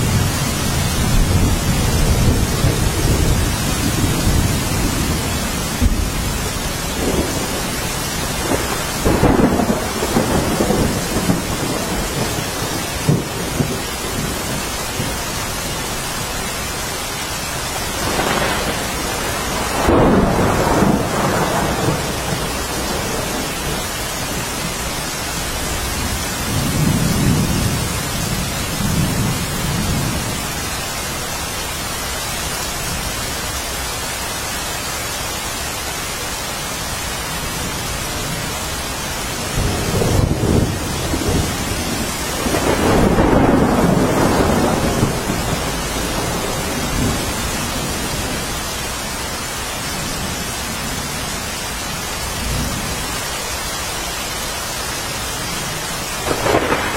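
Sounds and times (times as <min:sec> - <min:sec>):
thunder rumbling: 0:00.0 - 0:30.7, 0:37.5 - 0:53.3, 0:55.5 - 0:56.9
steady rain hiss: 0:00.0 - 0:56.9.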